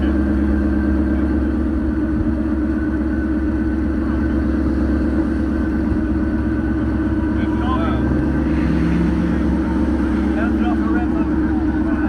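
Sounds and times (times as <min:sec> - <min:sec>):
car engine running through exhaust: 0:00.0 - 0:12.0.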